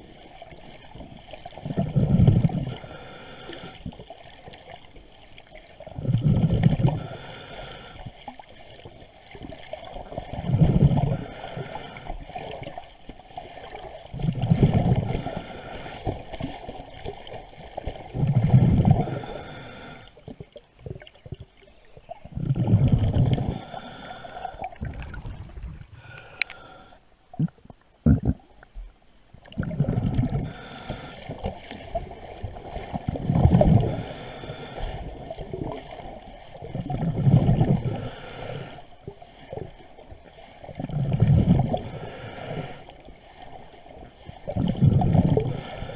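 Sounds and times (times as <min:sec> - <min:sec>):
exhaled bubbles underwater: 0:00.0 - 0:45.9.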